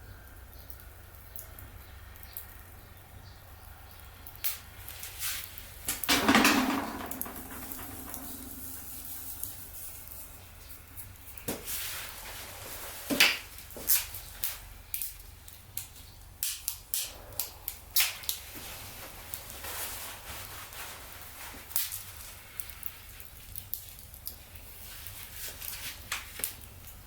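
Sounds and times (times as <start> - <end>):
wood fire crackling and popping: 0.2 - 27.0.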